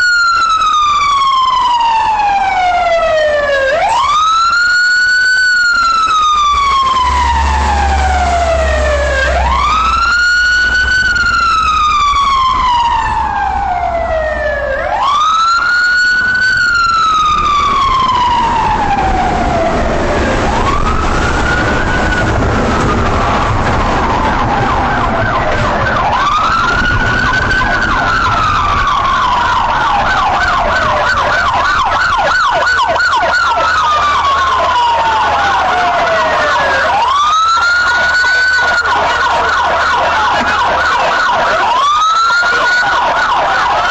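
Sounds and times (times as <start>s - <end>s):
police siren wailing: 0.0s - 43.9s
siren fast warble: 0.0s - 43.9s
vehicle engine rumble: 0.0s - 43.9s.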